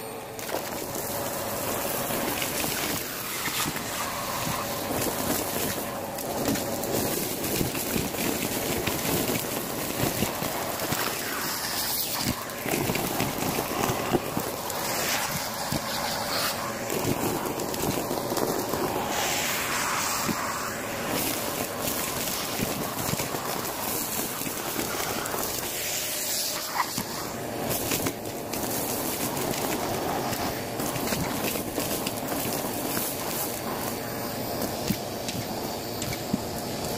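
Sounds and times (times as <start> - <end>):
vacuum cleaner running: 0.0 - 36.9
debris rattling up a hose: 0.2 - 36.9.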